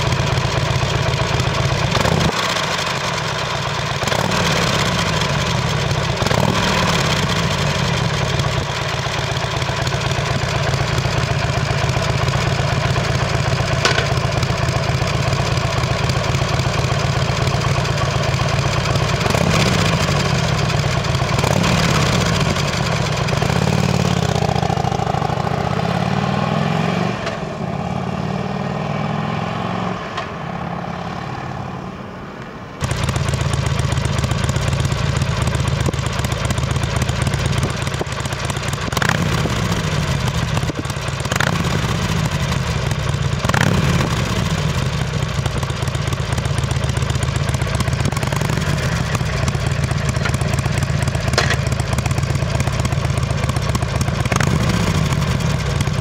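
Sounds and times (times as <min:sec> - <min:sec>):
motorcycle pulling away: 0:00.0 - 0:31.8, 0:32.8 - 0:56.0
motorcycle engine idling and revving: 0:00.0 - 0:56.0.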